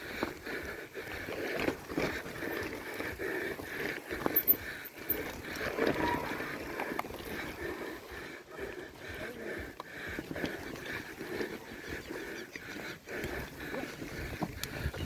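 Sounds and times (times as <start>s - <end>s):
bike rattling over rough ground: 0.0s - 15.0s.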